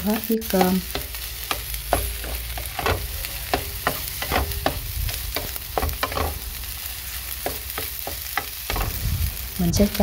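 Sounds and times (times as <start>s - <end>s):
wooden spatula scraping frying pan: 0.0s - 9.0s
rice sizzling in pan: 0.0s - 10.0s.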